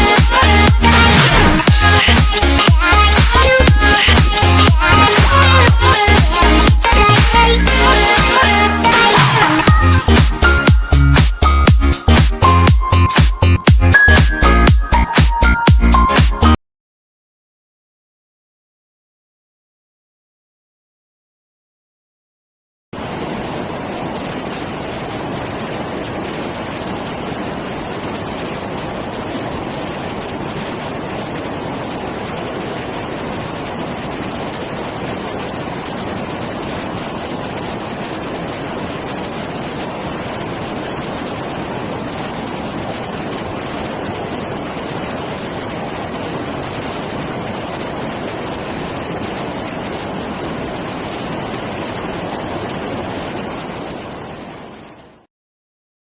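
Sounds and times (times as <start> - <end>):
rush of flowing water: 0.0 - 16.6, 23.0 - 55.3.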